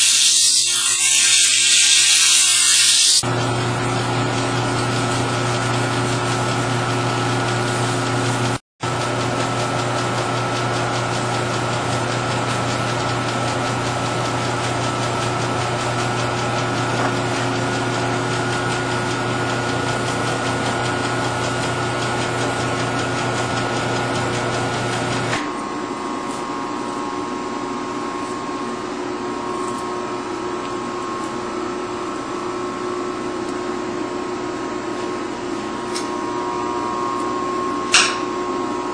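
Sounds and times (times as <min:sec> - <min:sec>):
workshop machinery hum: 0:00.0 - 0:38.9.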